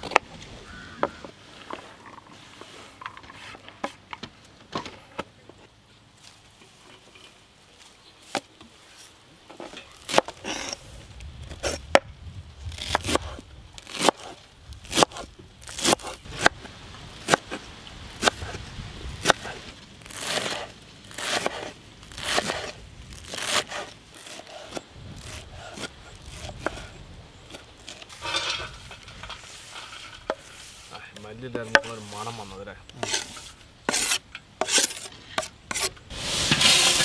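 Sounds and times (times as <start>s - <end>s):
rustle of cut leaves: 6.1s - 37.0s.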